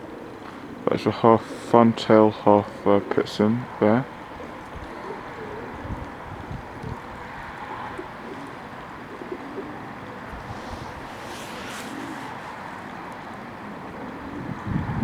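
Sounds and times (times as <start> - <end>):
doves cooing softly: 0.0 - 15.0
steady background noise: 0.0 - 15.0.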